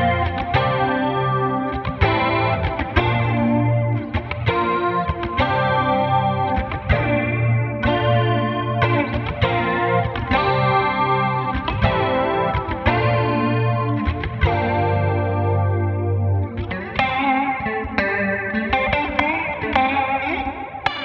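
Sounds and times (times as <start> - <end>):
clean electric guitar with reverb: 0.0 - 21.0.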